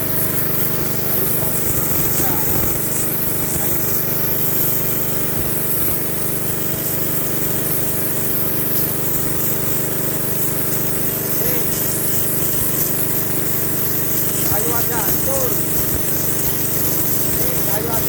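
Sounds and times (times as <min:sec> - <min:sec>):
high-pressure water jet hissing: 0:00.0 - 0:18.0
pressure washer engine running: 0:00.0 - 0:18.0.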